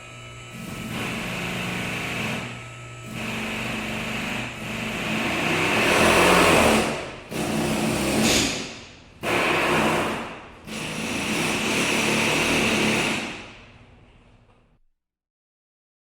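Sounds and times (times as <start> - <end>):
power drill motor running: 0.0 - 8.6, 9.2 - 13.6.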